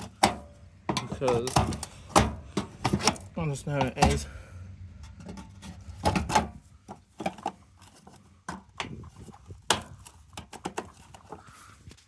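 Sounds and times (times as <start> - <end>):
hand tools and plastic parts knocking: 0.0 - 12.0.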